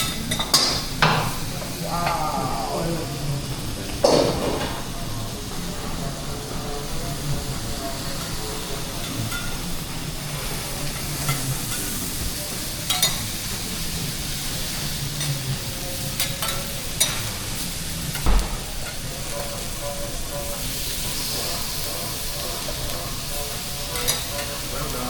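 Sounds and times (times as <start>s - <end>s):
food sizzling on a griddle: 0.0s - 25.0s.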